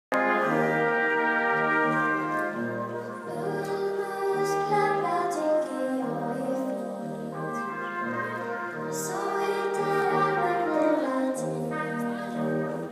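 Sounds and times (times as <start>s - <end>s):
brass ensemble playing chords: 0.1s - 12.9s.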